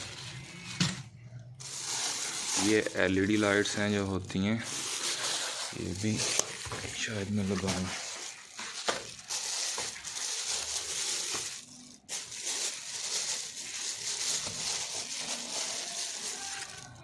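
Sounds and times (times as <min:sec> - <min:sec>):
rustling through a box: 0:01.6 - 0:17.0
small hard items clinking: 0:01.6 - 0:17.0.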